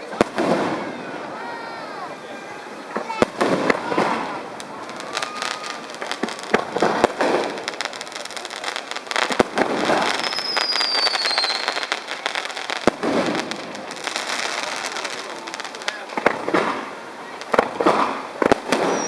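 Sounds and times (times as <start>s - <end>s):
fireworks bursting with bangs: 0.0s - 19.0s
fireworks crackling: 0.0s - 19.0s.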